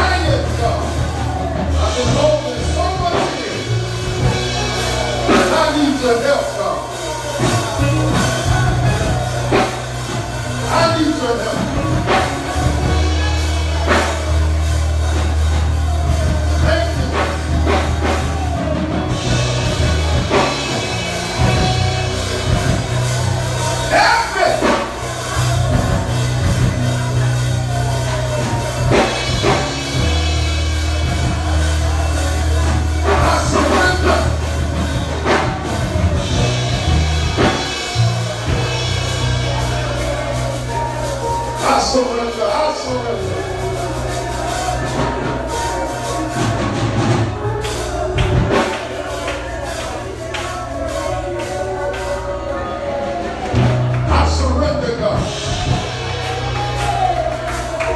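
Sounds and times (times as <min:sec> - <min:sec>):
people singing or praying: 0:00.0 - 0:57.9
worship band playing: 0:00.0 - 0:57.9.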